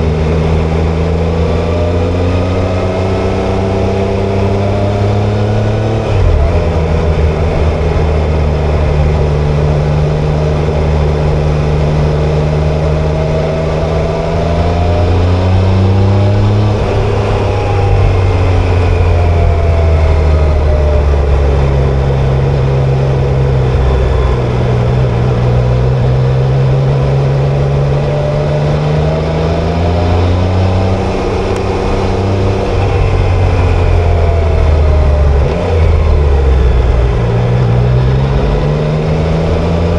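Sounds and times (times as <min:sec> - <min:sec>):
motorcycle engine and exhaust revving: 0:00.0 - 0:39.9.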